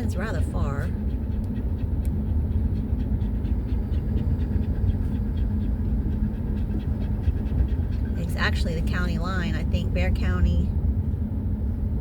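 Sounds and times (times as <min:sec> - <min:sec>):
dog panting: 0:00.0 - 0:10.7
car road noise: 0:00.0 - 0:12.0.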